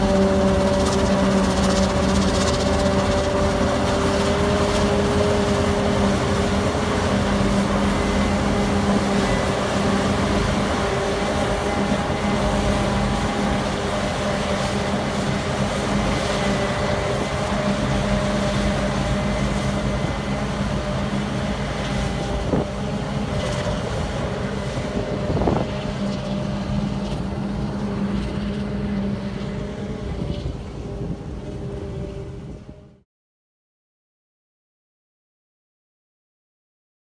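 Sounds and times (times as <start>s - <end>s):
harvesting machinery droning: 0.0s - 33.0s.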